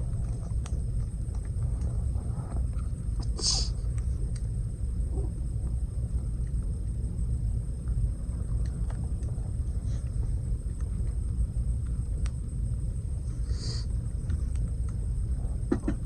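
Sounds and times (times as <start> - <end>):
campfire crackling: 0.0 - 15.7
steady low rumble: 0.0 - 16.0.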